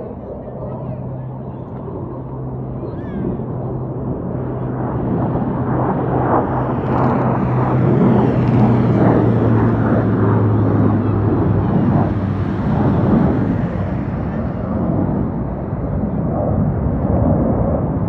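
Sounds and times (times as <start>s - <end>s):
fighter jets flying past: 0.0s - 18.0s.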